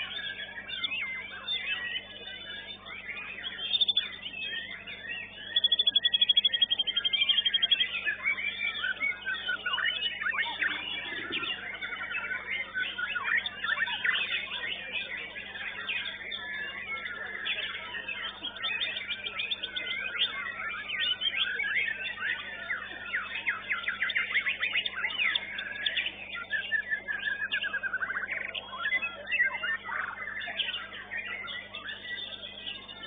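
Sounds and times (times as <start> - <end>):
birds chirping and whistling: 0.0 - 33.0.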